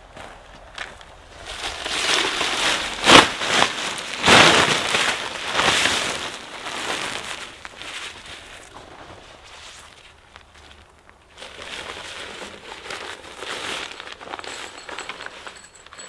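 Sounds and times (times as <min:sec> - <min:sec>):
nylon tent fabric rustling and flapping: 0:00.1 - 0:16.0.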